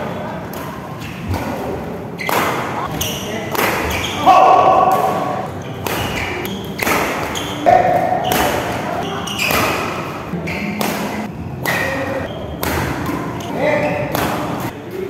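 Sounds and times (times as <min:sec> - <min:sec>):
racket hitting shuttlecock: 0:00.5 - 0:13.4, 0:14.1 - 0:14.7
shoes squeaking on court floor: 0:02.2 - 0:14.7.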